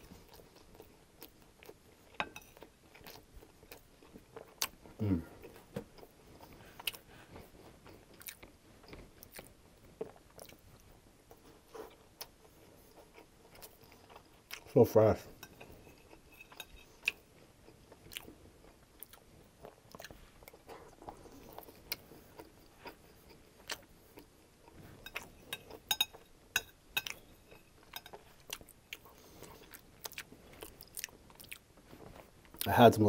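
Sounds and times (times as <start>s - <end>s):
close chewing: 0.0s - 14.8s, 15.4s - 32.7s.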